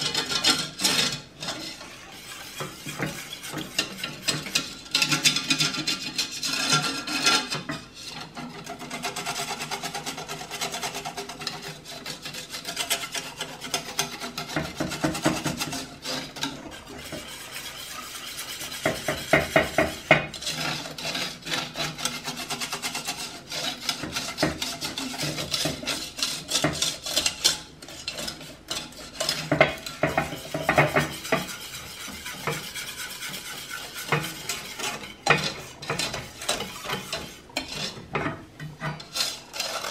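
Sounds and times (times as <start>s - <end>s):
whisk clacking on pan: 0.0s - 39.9s
whisk scraping saucepan: 0.0s - 39.9s.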